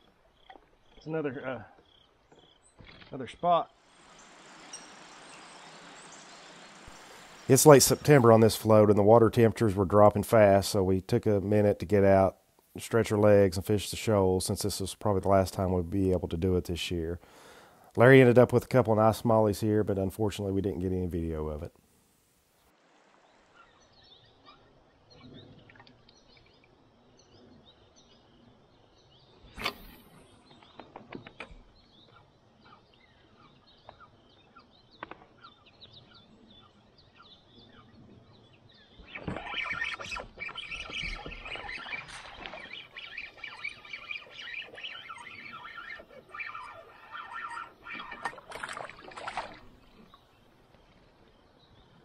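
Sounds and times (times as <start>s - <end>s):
small birds chirping: 0.0s - 21.6s, 22.6s - 52.0s.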